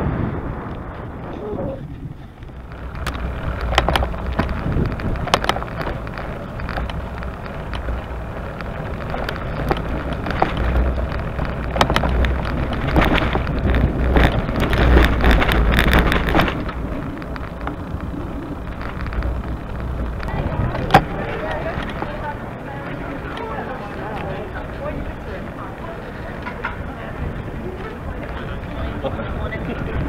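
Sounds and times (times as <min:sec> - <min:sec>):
bicycle tyre noise: 0:00.0 - 0:30.0
wind buffeting microphone: 0:00.0 - 0:30.0
bicycle rattling clicks: 0:01.8 - 0:30.0.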